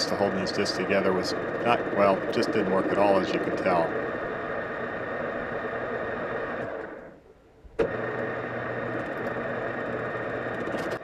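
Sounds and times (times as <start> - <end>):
metal lathe running: 0.0 - 7.2, 7.8 - 11.0.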